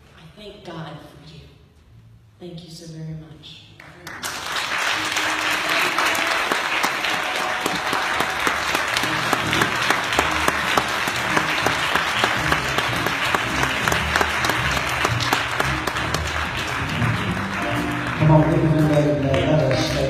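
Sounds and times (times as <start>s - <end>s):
congregation applauding: 3.8s - 20.0s.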